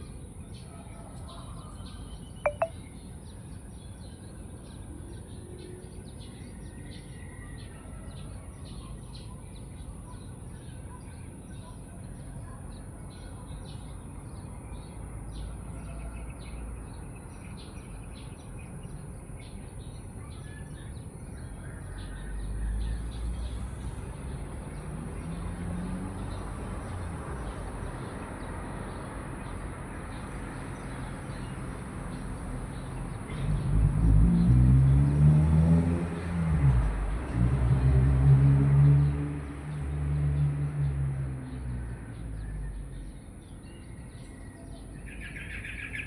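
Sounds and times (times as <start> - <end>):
small birds chirping: 0.0 - 34.2, 41.4 - 46.0.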